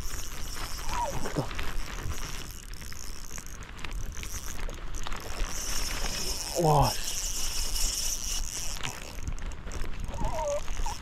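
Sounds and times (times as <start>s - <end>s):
fishing reel clicking and whirring: 0.0s - 11.0s.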